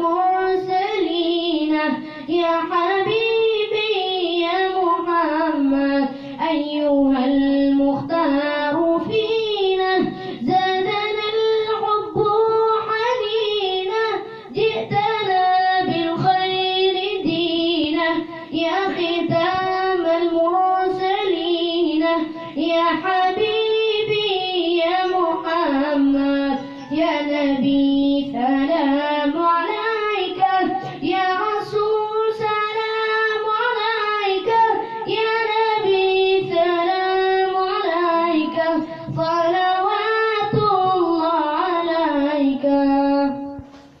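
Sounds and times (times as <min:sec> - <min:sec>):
boy singing devotional song: 0:00.0 - 0:44.0.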